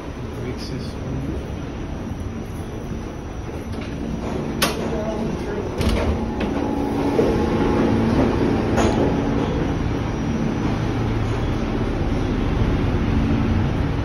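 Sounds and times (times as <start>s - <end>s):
subway car hum and rumble: 0.0s - 14.0s.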